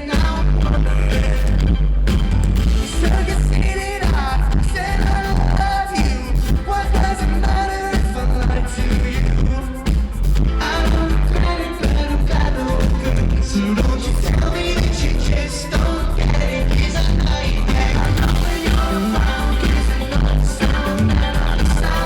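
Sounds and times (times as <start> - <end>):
booming bass: 0.0 - 22.0
drums: 0.0 - 22.0
person singing: 2.8 - 22.0.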